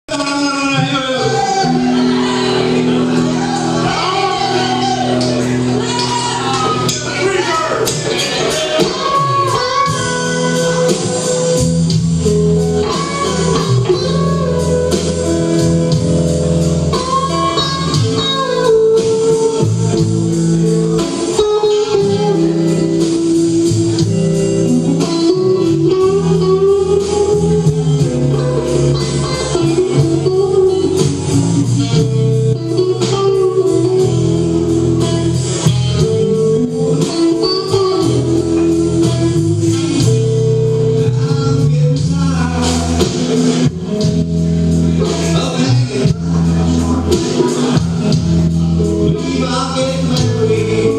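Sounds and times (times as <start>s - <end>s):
bass guitar: 0.0s - 50.9s
electric guitar notes: 0.1s - 50.9s
live band playing: 0.1s - 50.9s
drums beat: 1.3s - 50.9s.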